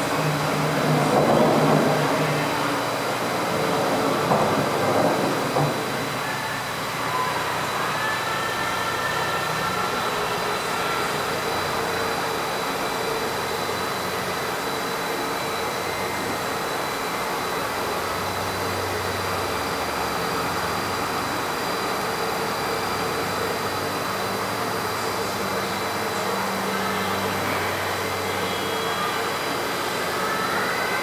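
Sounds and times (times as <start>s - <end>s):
high machine whine: 0.0s - 31.0s.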